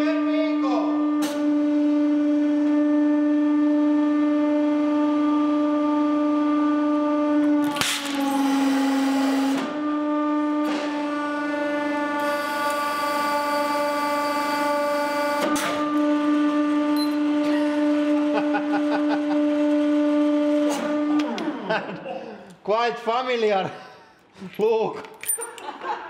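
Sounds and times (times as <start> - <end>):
hydraulic pump drone: 0.0 - 22.7.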